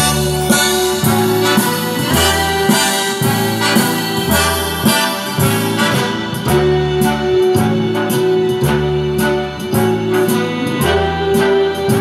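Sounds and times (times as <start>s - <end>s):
instrumental band music over loudspeakers: 0.0s - 12.0s.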